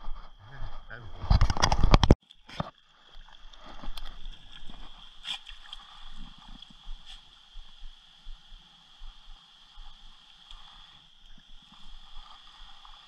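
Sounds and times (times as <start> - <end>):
stream water gurgling: 1.2 - 13.0.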